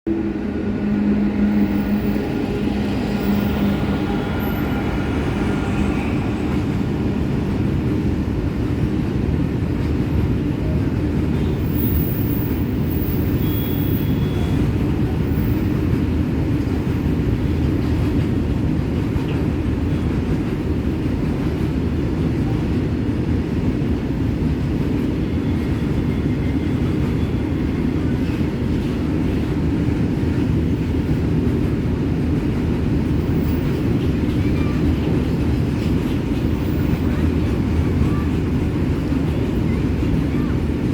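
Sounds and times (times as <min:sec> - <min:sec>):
freight train rumbling: 0:00.0 - 0:40.9.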